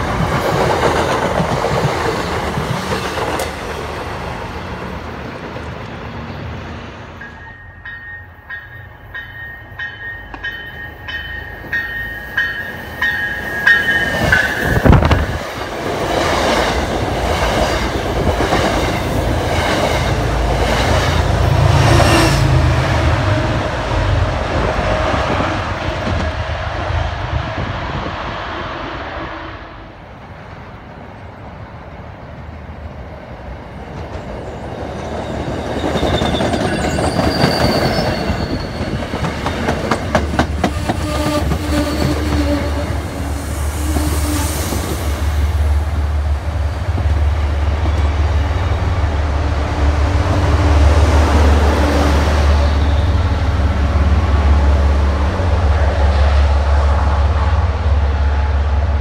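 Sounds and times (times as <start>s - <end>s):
train rolling by: 0.0s - 59.0s.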